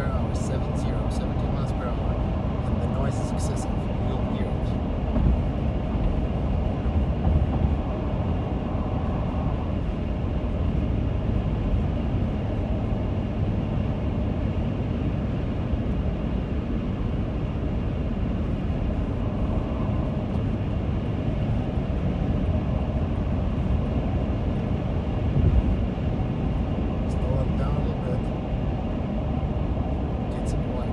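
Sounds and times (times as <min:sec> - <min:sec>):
wind and road noise in car: 0:00.0 - 0:30.9.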